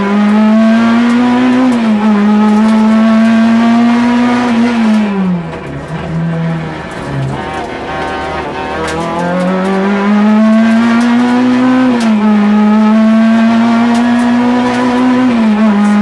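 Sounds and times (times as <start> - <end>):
car engine revving high: 0.0 - 16.0.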